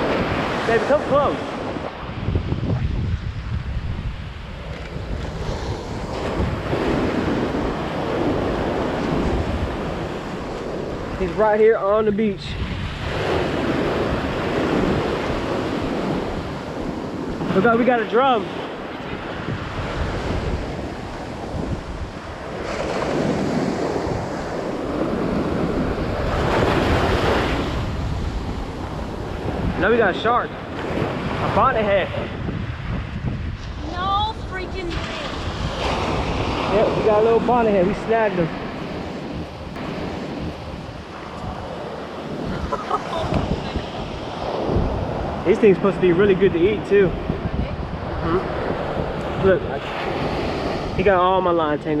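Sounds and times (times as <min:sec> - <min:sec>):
ocean surf washing onto beach: 0:00.0 - 0:52.0
wind buffeting microphone: 0:00.0 - 0:52.0.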